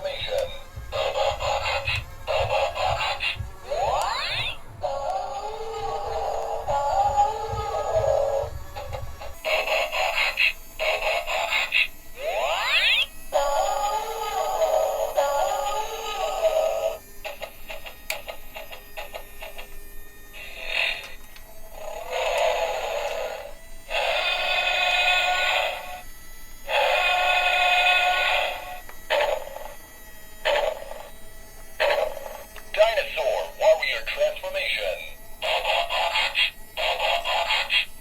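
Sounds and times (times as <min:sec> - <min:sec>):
tinny electronic toy music: 0:00.0 - 0:38.0.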